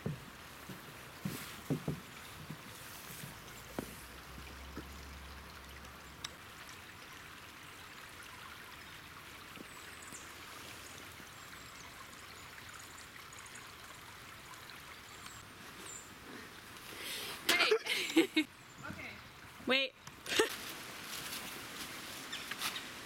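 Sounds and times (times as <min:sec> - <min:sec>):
forest stream trickling: 0:00.0 - 0:23.0.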